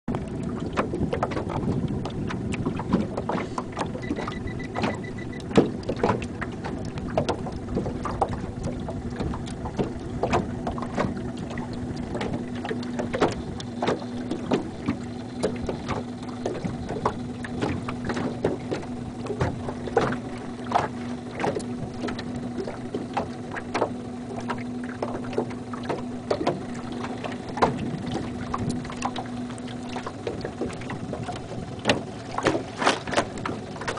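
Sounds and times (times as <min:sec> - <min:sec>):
boat motor humming: 0:00.0 - 0:33.9
waves slapping against hull: 0:00.0 - 0:33.9.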